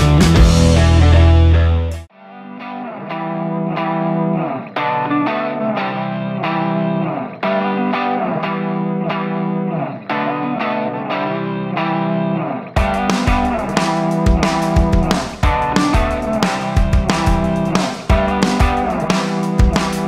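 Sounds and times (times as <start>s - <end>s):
electric guitar picking notes: 0.0s - 20.0s.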